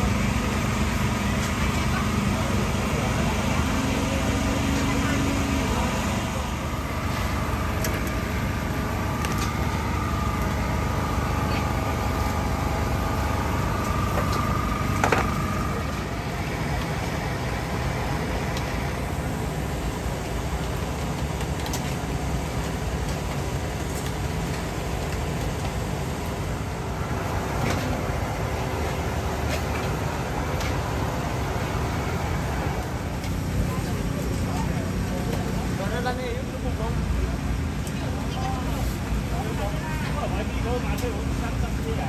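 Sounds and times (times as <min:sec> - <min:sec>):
street traffic rumble: 0:00.0 - 0:42.0.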